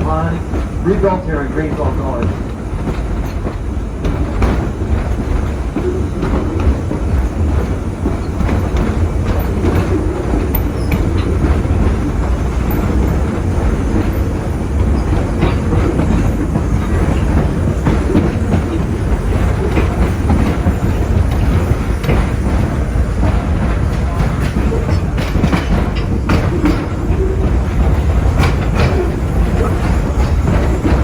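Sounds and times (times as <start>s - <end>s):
rail joint clicks: 0.0s - 31.0s
train wheels clickety-clack: 0.0s - 31.0s.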